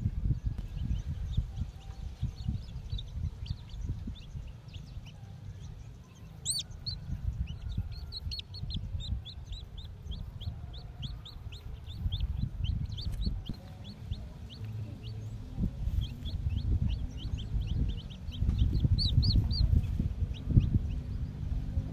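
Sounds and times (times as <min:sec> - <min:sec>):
low rumble: 0:00.0 - 0:21.9
chicks peeping: 0:00.2 - 0:21.9.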